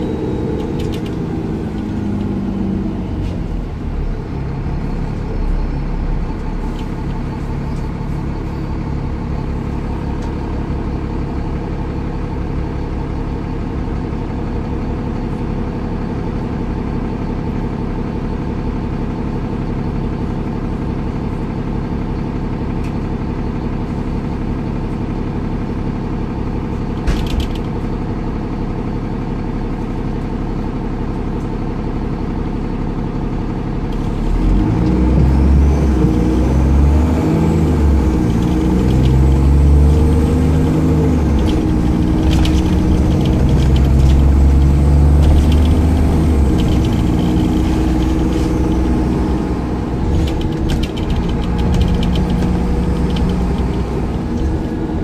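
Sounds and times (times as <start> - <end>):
bus diesel engine idling: 0.0 - 55.0.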